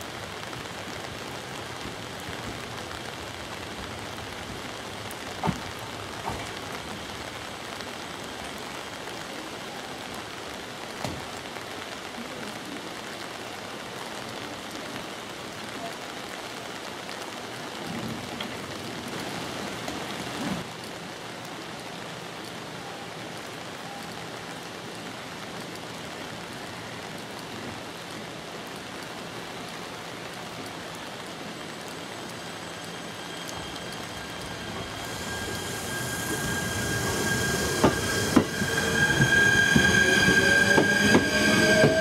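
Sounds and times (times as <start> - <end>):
steady rain hissing: 0.0 - 42.0.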